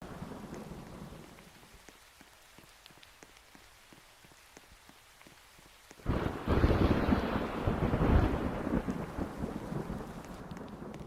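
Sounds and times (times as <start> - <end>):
raindrops ticking on a surface: 0.0 - 11.0.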